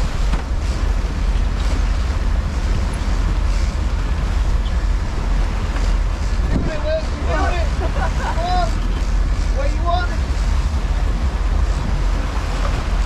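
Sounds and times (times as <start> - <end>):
boat engine running: 0.0 - 13.0
rushing wind: 0.0 - 13.0
water rushing: 0.0 - 13.0.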